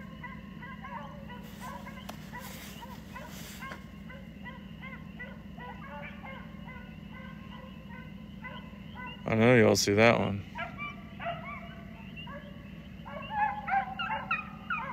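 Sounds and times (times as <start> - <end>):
hounds baying and yelping: 0.0 - 14.9
steady low hum: 0.0 - 14.9.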